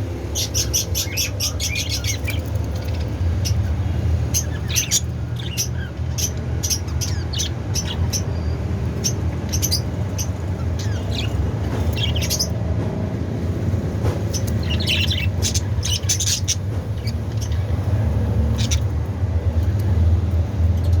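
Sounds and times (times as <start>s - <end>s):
budgerigars chirping and chattering: 0.3s - 12.6s, 14.2s - 21.0s.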